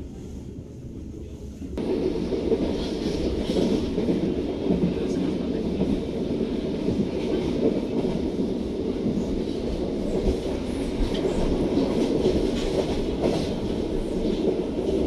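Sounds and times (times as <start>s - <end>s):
train rumbling from inside coach: 0.0s - 15.0s.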